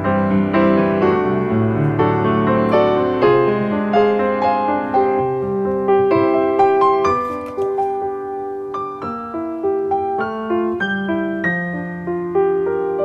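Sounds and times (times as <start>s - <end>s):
light keyboard melody: 0.0s - 13.0s.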